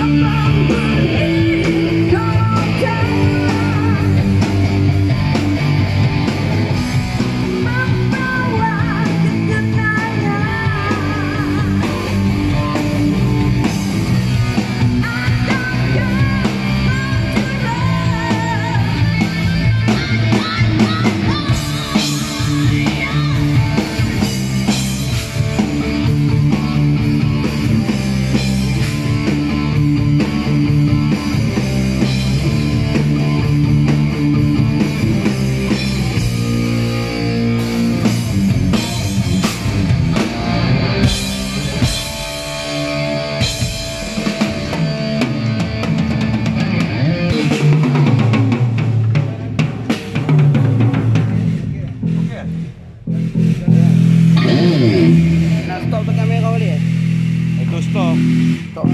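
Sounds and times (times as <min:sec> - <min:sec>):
drum kit: 0:00.0 - 0:58.9
electric guitar riffs: 0:00.0 - 0:58.9.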